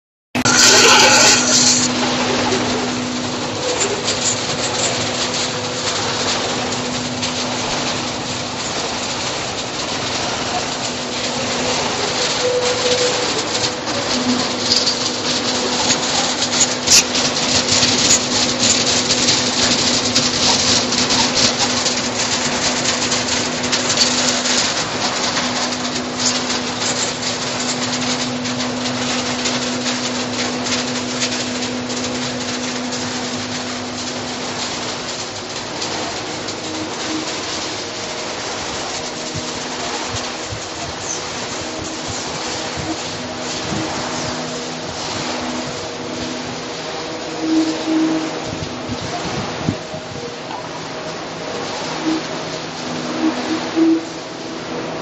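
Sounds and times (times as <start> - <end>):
cardboard scraps rattling: 0.4 - 46.6
machine motor hum: 0.4 - 55.0.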